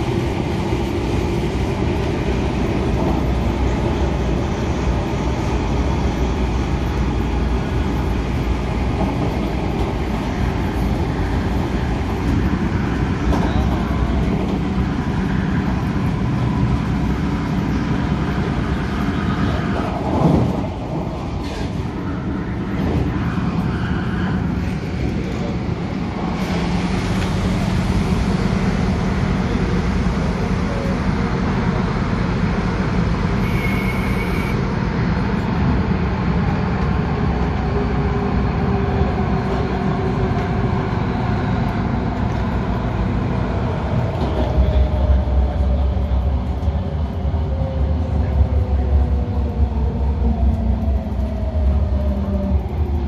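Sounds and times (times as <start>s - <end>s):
train wheel rumble: 0.0s - 53.0s.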